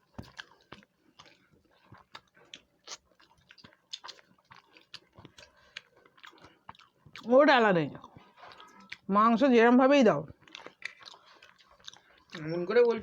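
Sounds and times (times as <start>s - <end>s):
chewing and wet mouth clicks: 0.0s - 7.3s, 7.9s - 9.1s, 10.2s - 13.0s.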